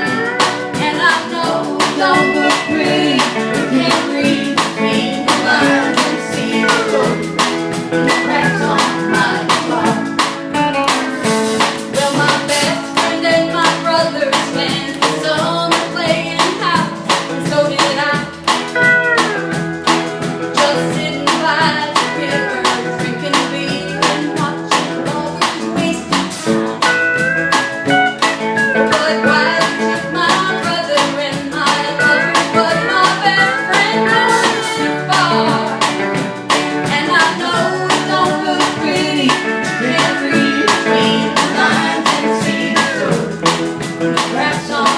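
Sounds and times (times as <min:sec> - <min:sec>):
person singing: 0:00.0 - 0:18.4, 0:20.4 - 0:36.2, 0:36.8 - 0:43.6, 0:44.2 - 0:44.9
band playing live: 0:00.0 - 0:44.9
steel guitar: 0:00.0 - 0:44.9.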